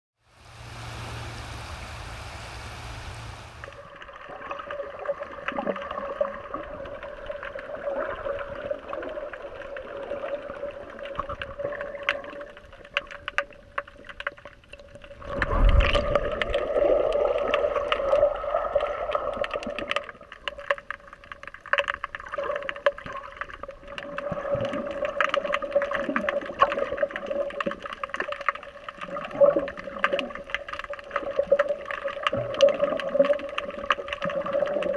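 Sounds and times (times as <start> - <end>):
water swirling and gurgling: 0.4 - 34.9
underwater crackles and clicks: 3.5 - 34.9.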